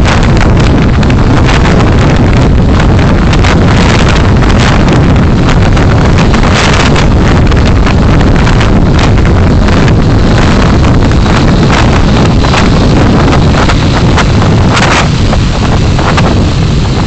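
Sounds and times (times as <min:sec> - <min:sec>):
wind and road noise in car: 0:00.0 - 0:17.0.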